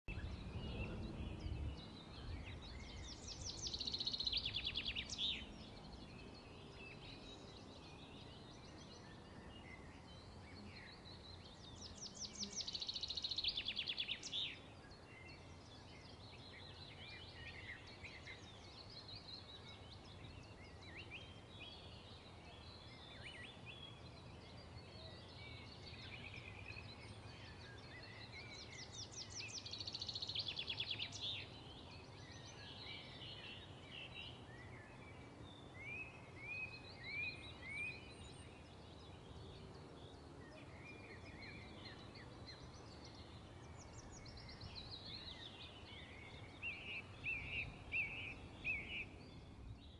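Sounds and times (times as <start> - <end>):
songbirds chirping: 0.0 - 49.9
rapid bird trilling song: 0.1 - 49.9.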